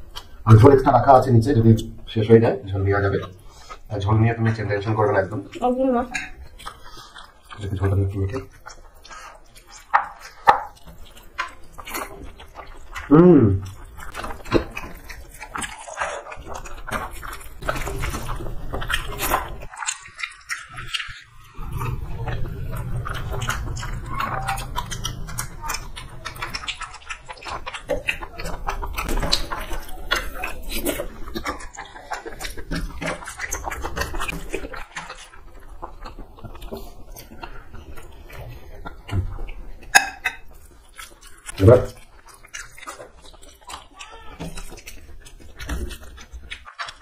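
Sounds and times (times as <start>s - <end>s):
wet chewing and lip-smacking: 0.0s - 0.9s, 2.7s - 47.0s.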